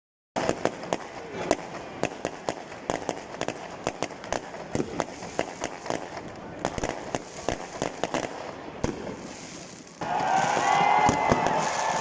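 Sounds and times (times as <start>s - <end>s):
firecrackers crackling: 0.4s - 12.0s
fireworks bangs: 0.4s - 12.0s.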